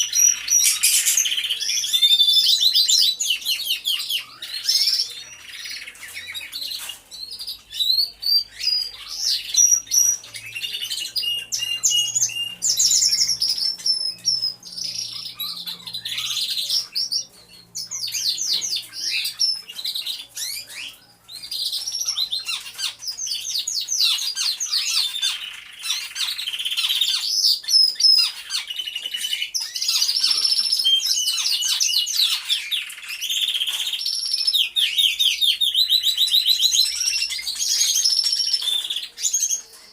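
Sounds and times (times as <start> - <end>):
canaries singing: 0.0 - 39.9.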